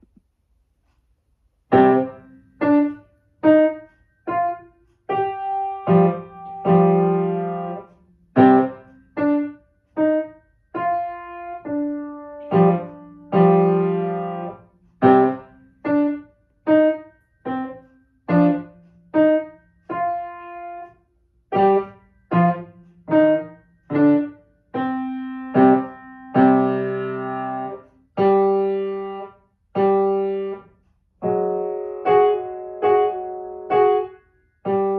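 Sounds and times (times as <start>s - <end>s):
solo piano piece: 1.7s - 20.9s, 21.5s - 34.9s.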